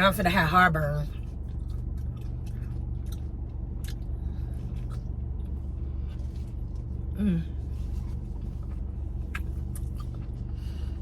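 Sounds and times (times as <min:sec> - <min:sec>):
steady low hum: 0:00.0 - 0:11.0
person chewing crunchy chips: 0:01.2 - 0:11.0.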